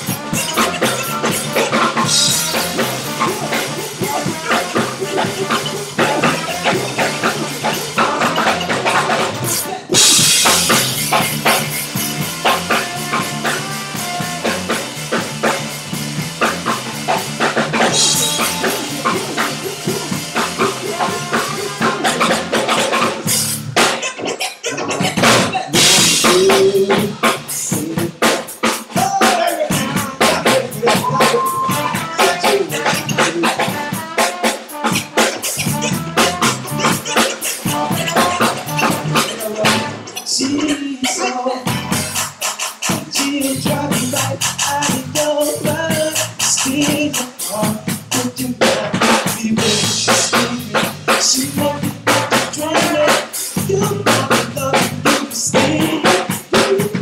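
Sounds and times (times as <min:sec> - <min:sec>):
drum kit busy beat: 0:00.0 - 0:57.0
live funk band playing: 0:00.0 - 0:57.0.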